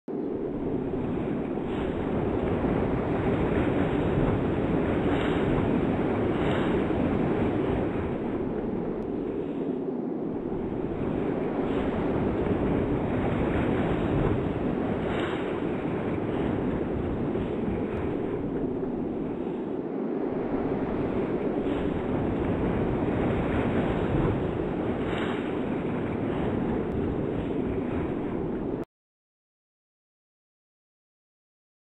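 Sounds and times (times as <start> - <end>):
wind on microphone: 0.1 - 28.8
waves crashing against pier: 0.4 - 9.6, 10.3 - 28.8.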